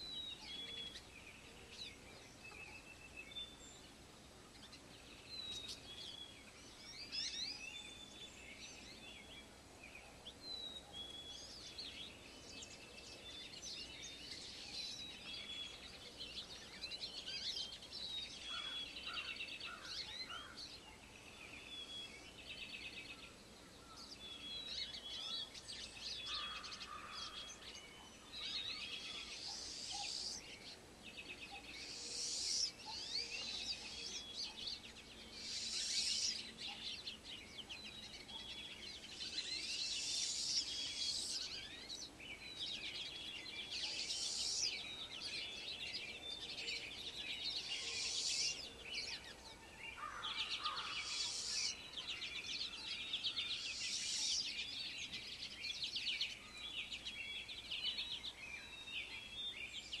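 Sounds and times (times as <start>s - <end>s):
louder higher birdsong: 0.0s - 60.0s
many songbirds chirping: 0.0s - 60.0s.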